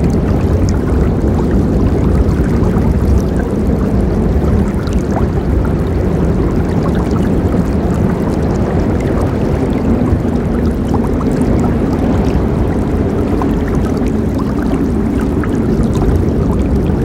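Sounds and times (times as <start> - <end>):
river water rushing: 0.0 - 17.0
small splashes and trickles: 0.0 - 17.0.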